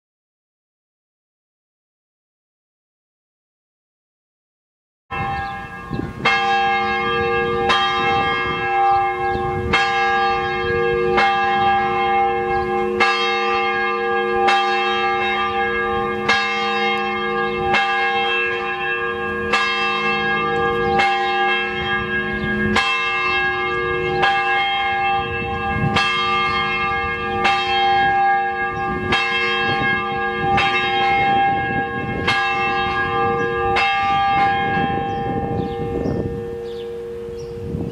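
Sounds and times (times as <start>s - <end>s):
church bell ringing: 5.1s - 37.9s.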